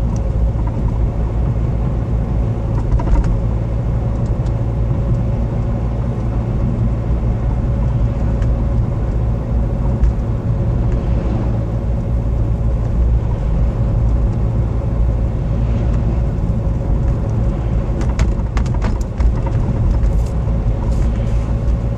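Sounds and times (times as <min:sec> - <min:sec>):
car engine rumbling: 0:00.0 - 0:21.9.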